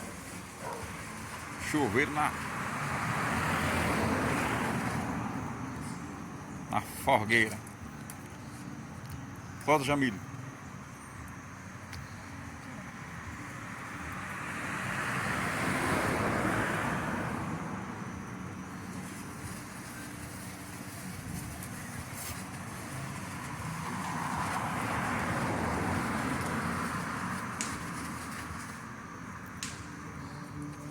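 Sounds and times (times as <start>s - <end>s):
road vehicles passing by: 0.0s - 30.9s.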